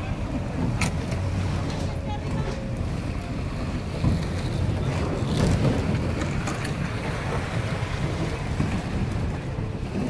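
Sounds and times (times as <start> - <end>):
street traffic: 0.0 - 10.0
wind rumble on microphone: 0.0 - 10.0.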